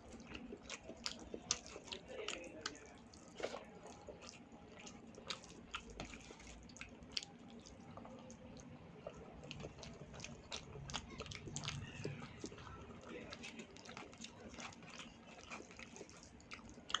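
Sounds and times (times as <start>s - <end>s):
person chewing wetly: 0.0s - 17.0s.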